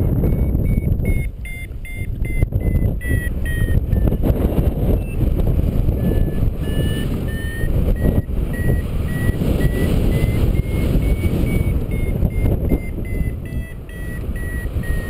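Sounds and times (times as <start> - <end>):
variometer short beeps: 0.0 - 4.3, 4.9 - 15.0
wind noise on microphone: 0.0 - 15.0.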